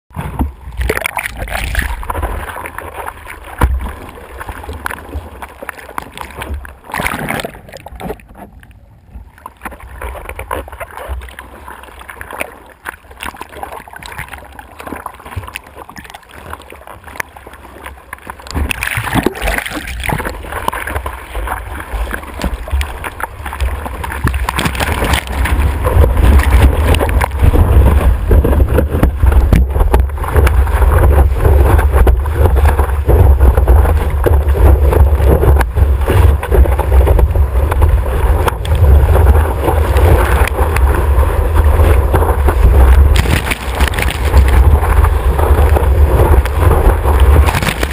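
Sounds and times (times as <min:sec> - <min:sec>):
water sloshing and gurgling: 0:00.1 - 0:47.9
rush of whitewater and spray: 0:00.3 - 0:08.3, 0:09.6 - 0:47.9.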